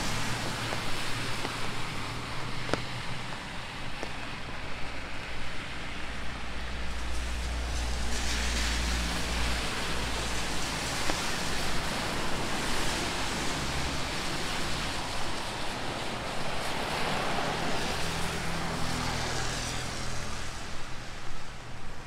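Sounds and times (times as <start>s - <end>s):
rain falling: 0.0s - 22.0s
tyres hissing on wet road: 0.0s - 22.0s.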